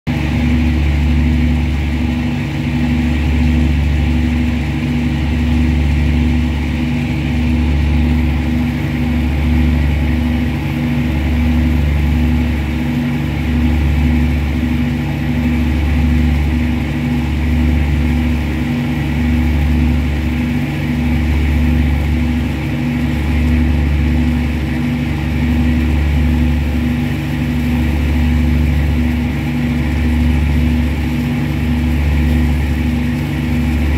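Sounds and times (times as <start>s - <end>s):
boat engine droning: 0.1s - 33.9s.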